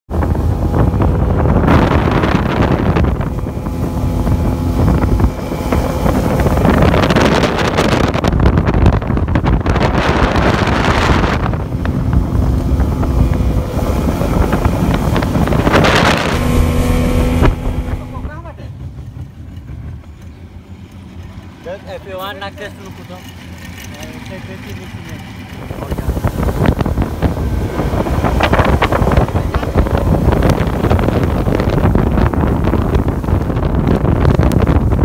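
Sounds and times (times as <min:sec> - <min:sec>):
boat motor running: 0:00.1 - 0:35.0
wind buffeting microphone: 0:00.1 - 0:35.0.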